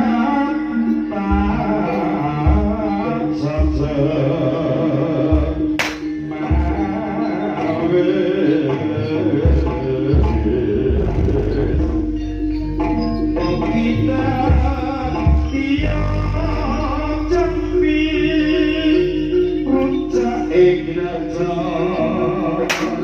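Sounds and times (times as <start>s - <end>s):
gamelan melody: 0.0s - 23.0s
person singing: 0.0s - 23.0s.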